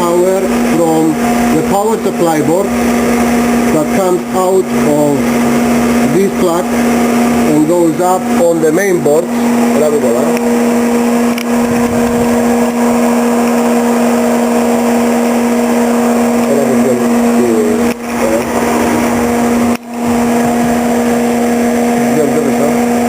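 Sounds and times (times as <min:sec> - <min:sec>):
cooling fan running: 0:00.0 - 0:23.0
electrical hum: 0:00.0 - 0:23.0.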